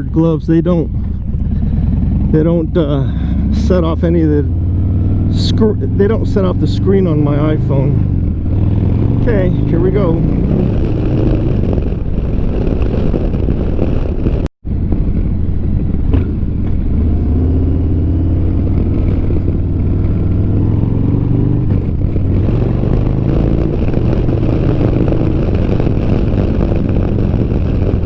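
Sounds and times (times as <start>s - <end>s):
motorcycle engine accelerating: 0.0s - 28.0s
wind noise on microphone: 0.0s - 28.0s.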